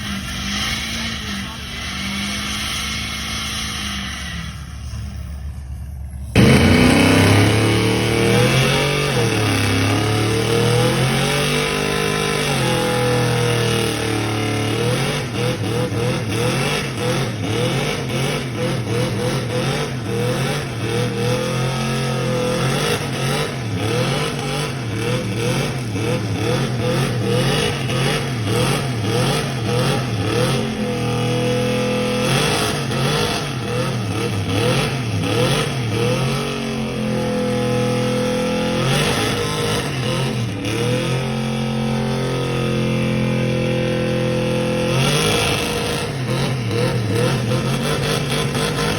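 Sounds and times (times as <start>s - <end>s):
truck engine revving hard: 0.0s - 5.2s, 6.2s - 48.9s.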